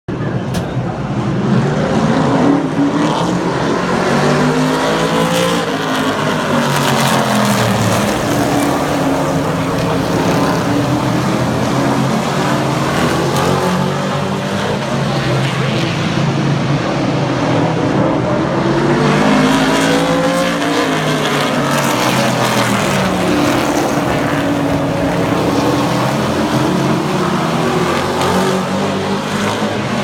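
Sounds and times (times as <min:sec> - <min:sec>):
racing truck engines passing: 0:00.1 - 0:30.0.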